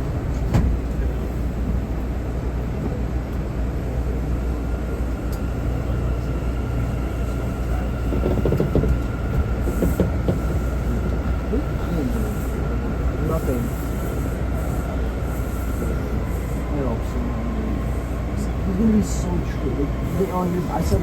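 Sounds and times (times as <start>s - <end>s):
subway car rumble: 0.0s - 21.0s.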